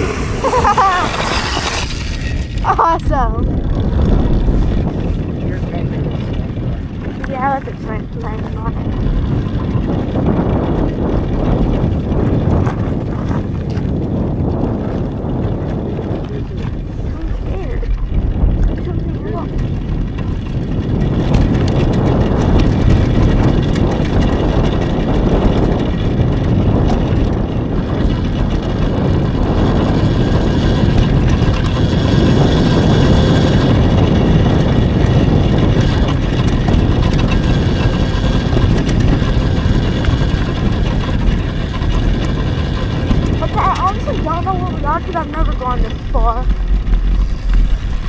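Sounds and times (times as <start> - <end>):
dirt bike tyre noise: 0.0 - 48.0
wind rumble on microphone: 0.0 - 48.0.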